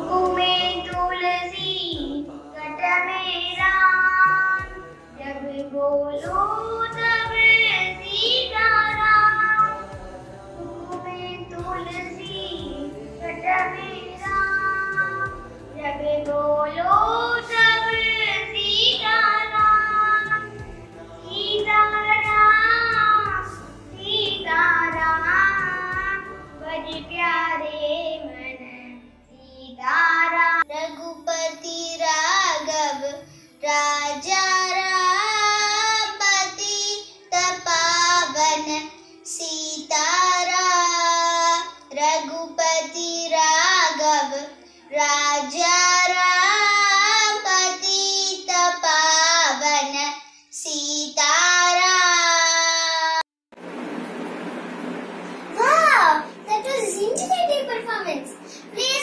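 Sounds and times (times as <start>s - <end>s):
child singing: 0.0s - 53.2s, 58.8s - 59.0s.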